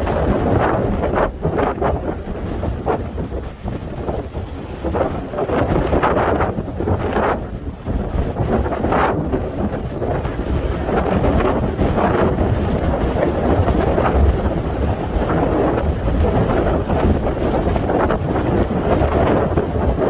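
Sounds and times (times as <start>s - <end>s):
waves washing on shore: 0.0s - 20.0s
wind buffeting microphone: 0.0s - 20.0s.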